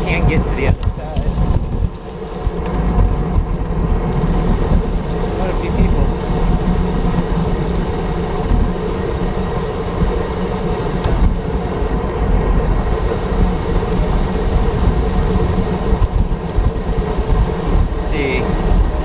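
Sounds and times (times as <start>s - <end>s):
bicycle tyre and road noise: 0.0s - 19.0s
wind rumble on microphone: 0.0s - 19.0s.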